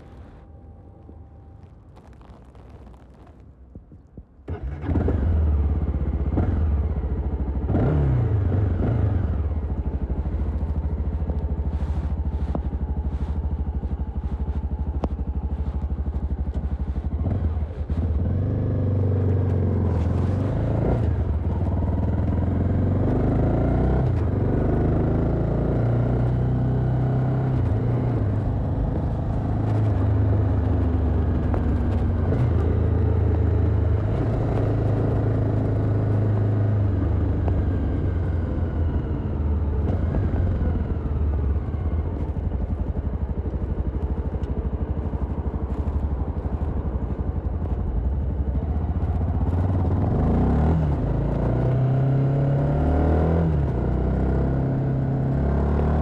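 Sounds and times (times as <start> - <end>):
motorcycle engine running: 3.8 - 56.0.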